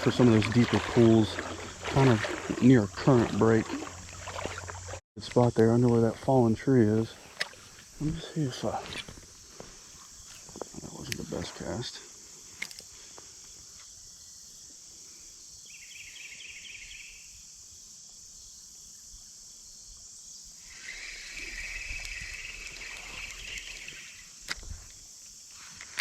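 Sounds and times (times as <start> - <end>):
crickets chirping: 0.0 - 26.0
low rattling insect trill: 0.0 - 26.0.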